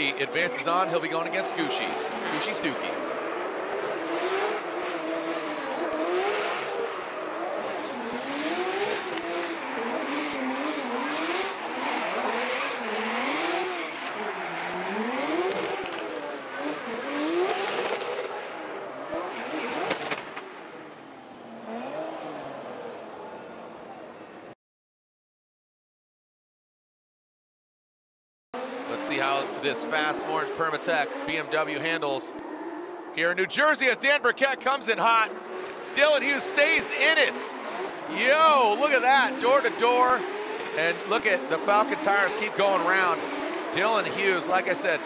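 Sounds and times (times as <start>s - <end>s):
drift car engines revving: 0.0s - 24.4s, 28.6s - 45.0s.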